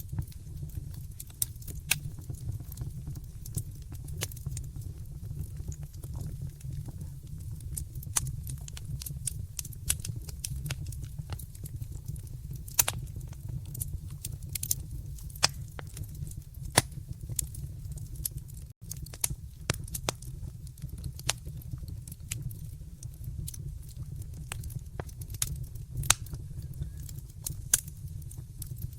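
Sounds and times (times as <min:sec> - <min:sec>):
fire low rumble: 0:00.0 - 0:28.9
wood fire popping and snapping: 0:00.0 - 0:28.9.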